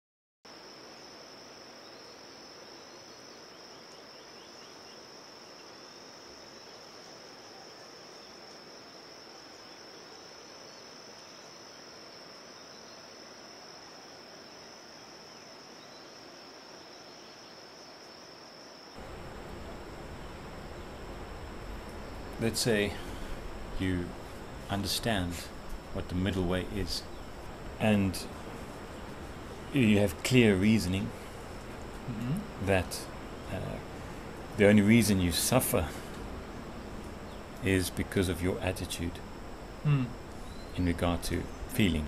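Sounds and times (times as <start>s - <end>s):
crickets trilling: 0.5s - 42.0s.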